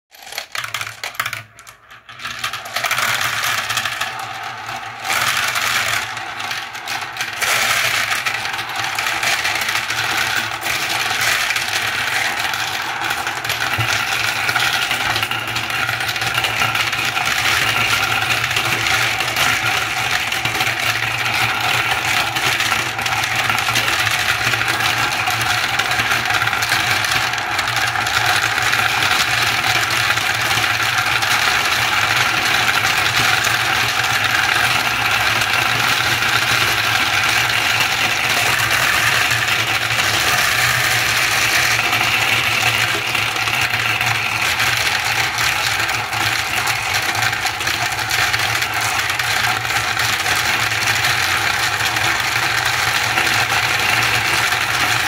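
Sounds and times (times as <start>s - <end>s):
marbles rattling in marble run: 0.1s - 55.0s.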